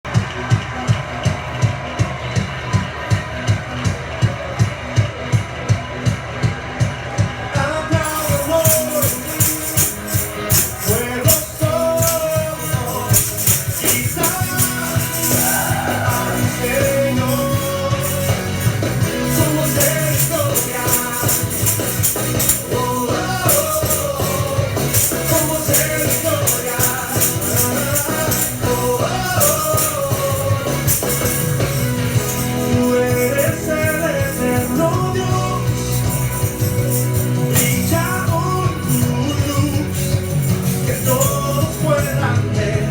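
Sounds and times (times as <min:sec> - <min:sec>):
steady beat: 0:00.1 - 0:42.9
person singing: 0:07.2 - 0:42.9
tambourine: 0:07.9 - 0:42.9.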